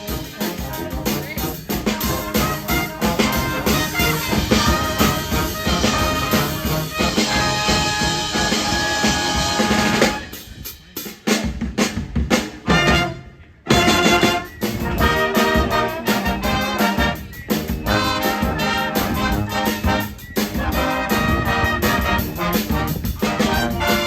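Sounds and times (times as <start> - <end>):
brass horns playing: 0.0 - 10.7, 12.6 - 24.0
drum kit playing: 0.0 - 24.0.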